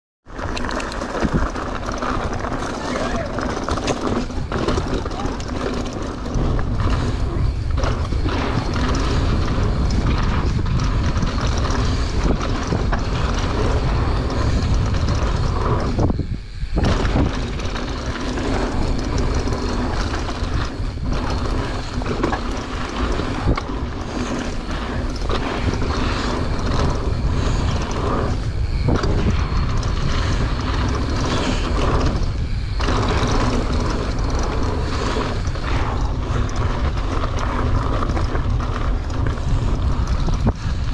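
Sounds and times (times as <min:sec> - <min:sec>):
tyres rumbling on dirt trail: 0:00.2 - 0:40.9
wind rushing on microphone: 0:00.3 - 0:40.9.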